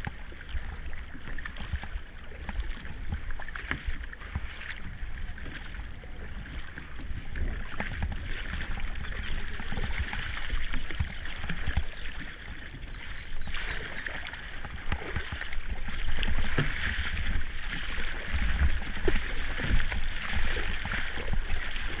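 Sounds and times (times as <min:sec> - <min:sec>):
moving river water: 0:00.0 - 0:22.0
paddle blades splashing: 0:00.0 - 0:22.0.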